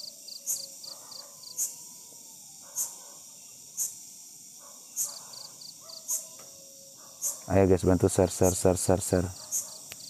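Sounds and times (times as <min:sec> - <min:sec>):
insect fast ticking trill: 0:00.0 - 0:10.0
insect high chirping: 0:00.0 - 0:10.0.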